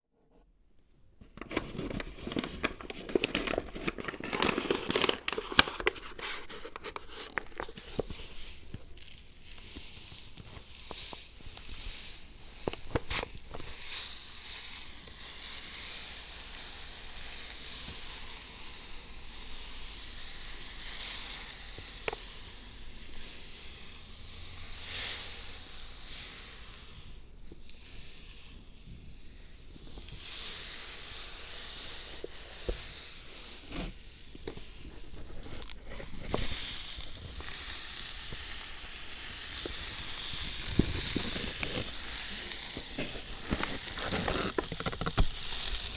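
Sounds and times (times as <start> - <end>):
dry sand hissing and rustling: 7.8 - 45.9.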